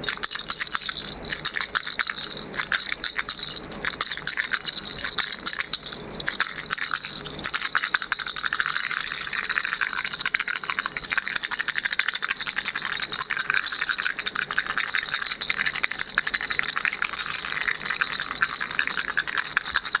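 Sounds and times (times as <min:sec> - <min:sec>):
baby rattle shaken: 0:00.0 - 0:20.0.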